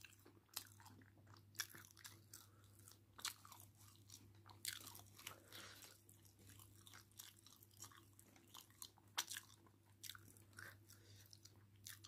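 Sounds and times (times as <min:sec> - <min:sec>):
low electrical hum: 0:00.0 - 0:12.0
person chewing food: 0:00.0 - 0:12.0.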